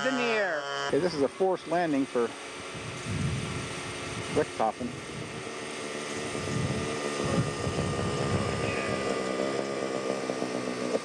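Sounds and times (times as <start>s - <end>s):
model airplane engine running: 0.0s - 11.0s.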